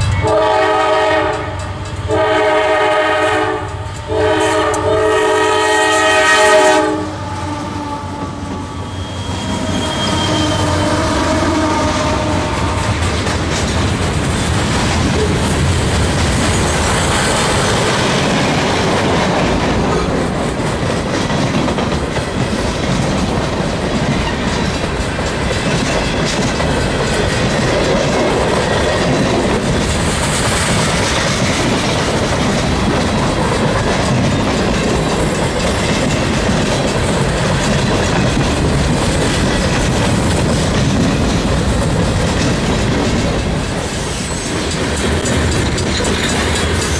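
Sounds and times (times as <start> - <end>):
train wheels clattering on rails: 0.0 - 46.9.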